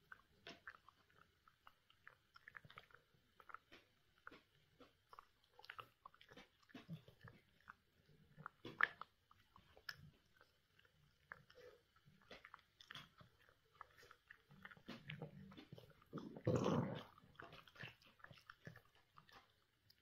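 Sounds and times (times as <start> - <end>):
dog chewing and gnawing: 0.0 - 20.0.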